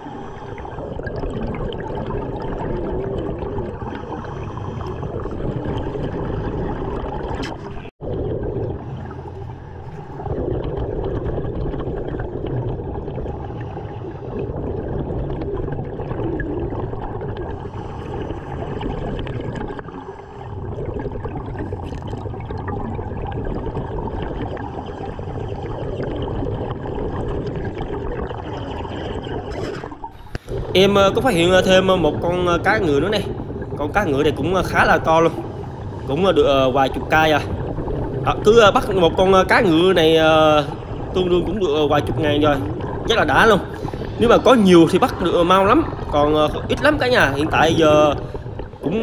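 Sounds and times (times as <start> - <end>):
gurgling bubbles: 0.0 - 49.0
muffled underwater water rush: 0.0 - 49.0.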